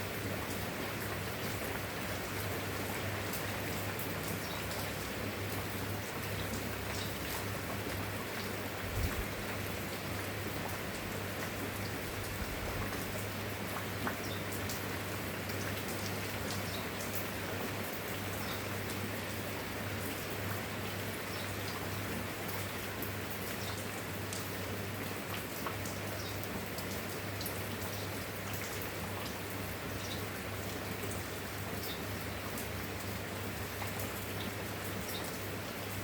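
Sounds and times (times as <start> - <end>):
steady rainfall: 0.0 - 36.0.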